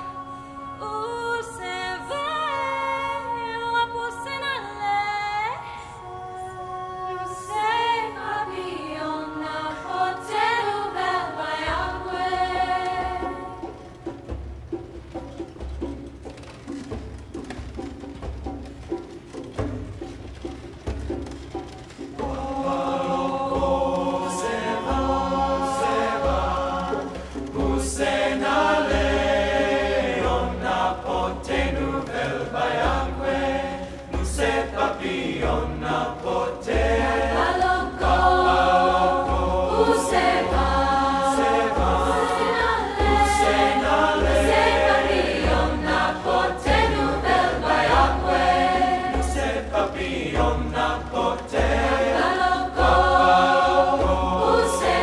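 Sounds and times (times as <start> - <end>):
youth choir singing: 0.0 - 4.4, 6.2 - 14.4, 22.2 - 55.0
hand drums beating: 10.3 - 55.0.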